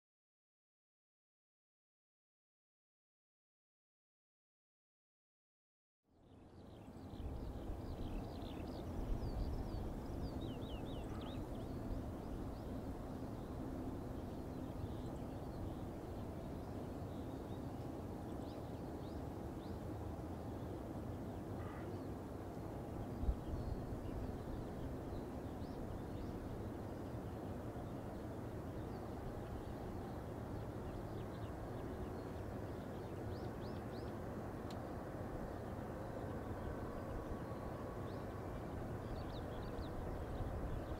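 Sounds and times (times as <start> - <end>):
small birds chirping: 6.3 - 40.9
distant jet engines rumbling: 6.9 - 40.9.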